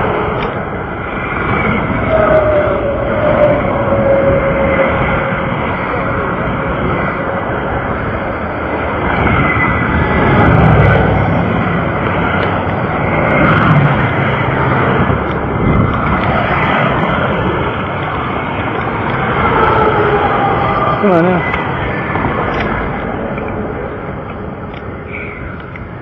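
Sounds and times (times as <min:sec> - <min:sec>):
vehicle noise roaring: 0:00.0 - 0:26.0.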